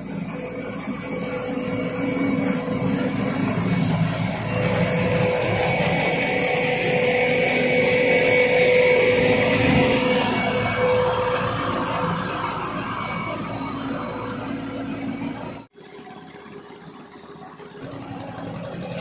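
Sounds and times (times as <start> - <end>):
excavator machine drone: 0.0 - 19.0.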